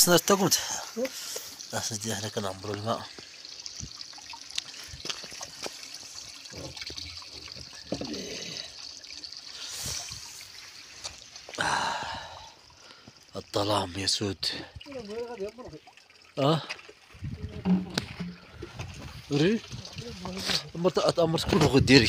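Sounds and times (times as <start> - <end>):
water trickling among rocks: 0.0 - 22.0
small knocks and splashes: 1.0 - 11.6, 14.6 - 21.9.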